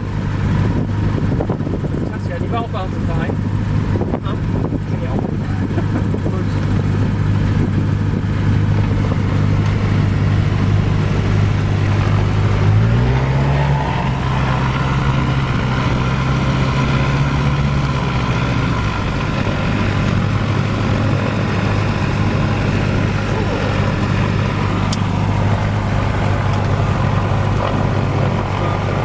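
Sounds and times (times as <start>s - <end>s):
light aircraft piston engine: 0.0s - 29.0s.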